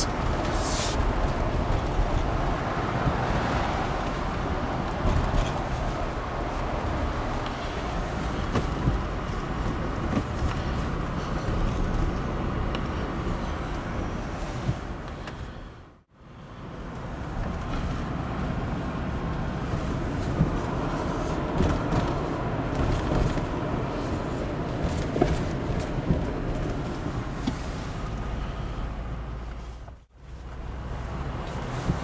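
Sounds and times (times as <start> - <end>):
car road and engine noise: 0.0 - 32.0.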